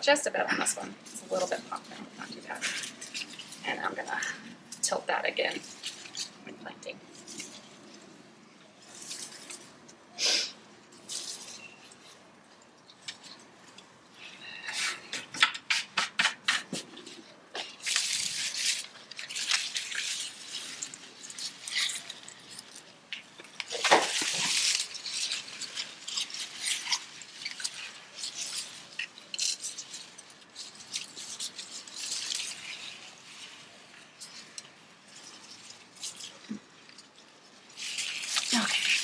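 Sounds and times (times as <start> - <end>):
hands rustling potting soil: 0.0 - 39.0.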